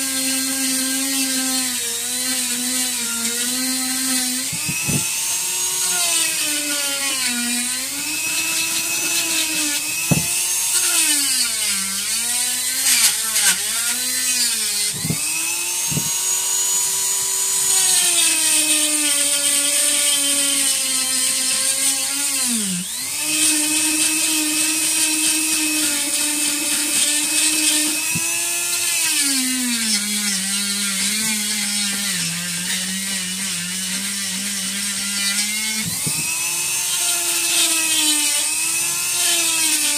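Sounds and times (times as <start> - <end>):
rotary tool whining cutting wood: 0.0 - 39.9.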